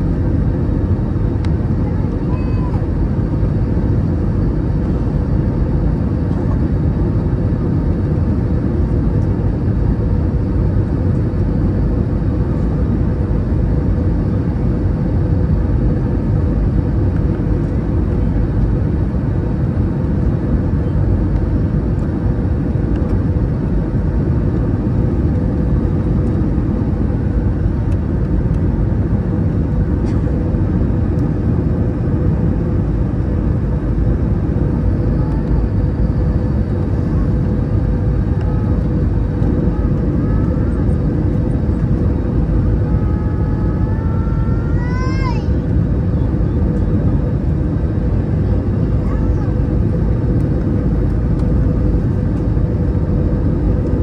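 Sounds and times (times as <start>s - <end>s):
airflow rumble: 0.0s - 54.0s
jet engines running: 0.0s - 54.0s.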